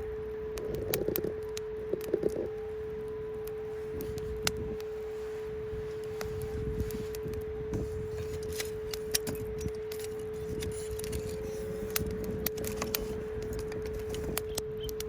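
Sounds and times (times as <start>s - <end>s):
steady pure tone: 0.0s - 15.0s
wood fire crackling: 0.0s - 15.0s.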